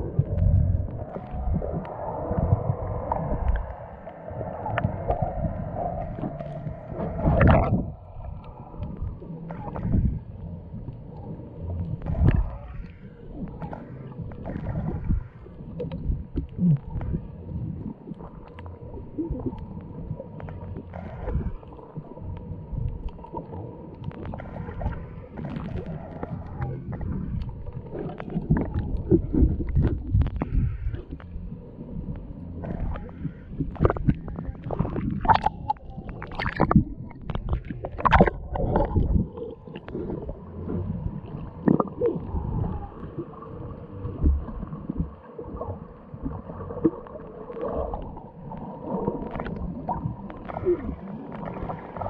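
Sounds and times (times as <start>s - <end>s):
muffled underwater rumble: 0.0s - 52.0s
underwater clicks: 0.0s - 52.0s.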